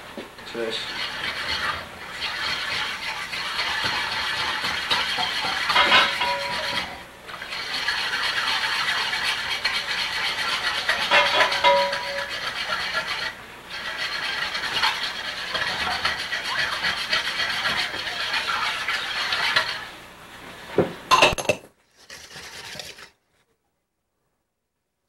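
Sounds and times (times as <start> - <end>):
whisk scraping metal bowl: 0.5 - 20.0, 21.9 - 23.2.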